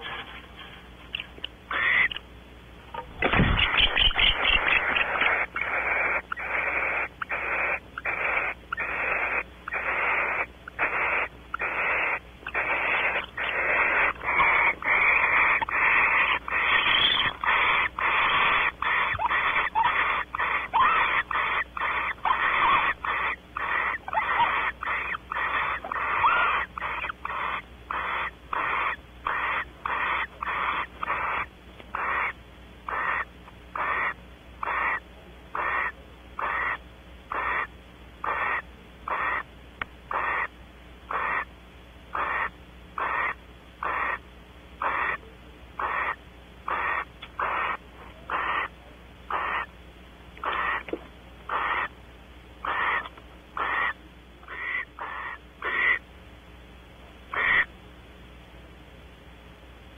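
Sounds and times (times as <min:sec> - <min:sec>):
owls hissing: 0:01.2 - 0:02.2, 0:03.3 - 0:39.5, 0:40.1 - 0:40.5, 0:41.1 - 0:41.5, 0:42.1 - 0:44.2, 0:44.8 - 0:45.2, 0:45.8 - 0:49.7, 0:50.4 - 0:50.9, 0:51.5 - 0:52.0, 0:52.6 - 0:56.0, 0:57.3 - 0:57.7.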